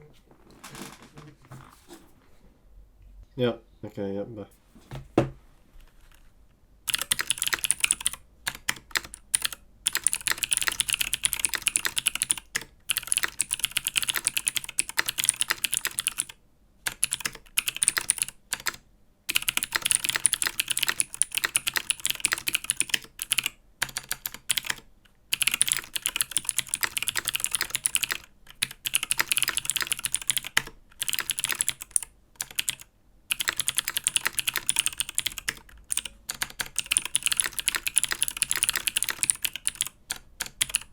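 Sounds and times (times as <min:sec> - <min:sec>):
mechanical keyboard typing clicks: 0:06.9 - 0:40.9.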